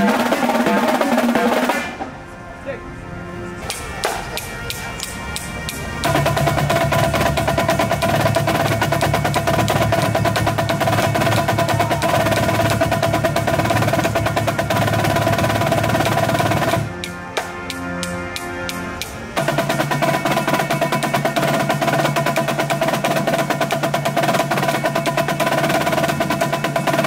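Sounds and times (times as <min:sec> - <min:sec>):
marching drumline playing: 0:00.0 - 0:02.2, 0:03.6 - 0:27.0.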